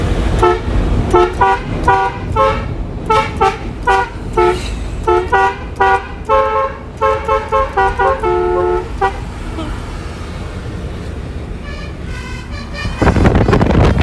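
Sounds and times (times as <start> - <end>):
multi-tone musical air horn: 0.4 - 9.7, 11.6 - 14.0.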